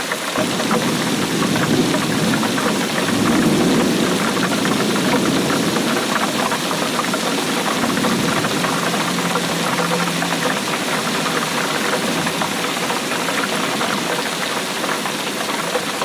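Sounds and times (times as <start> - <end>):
heavy rainfall: 0.0 - 16.0.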